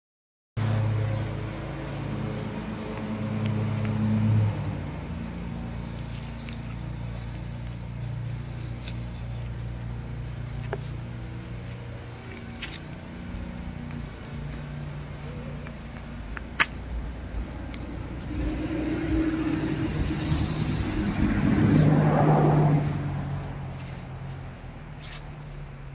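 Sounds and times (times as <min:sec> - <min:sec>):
low motor hum: 0:00.6 - 0:25.9.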